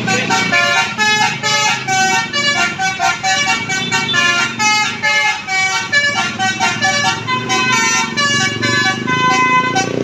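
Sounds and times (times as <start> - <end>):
musical bus air horn: 0.0 - 10.0.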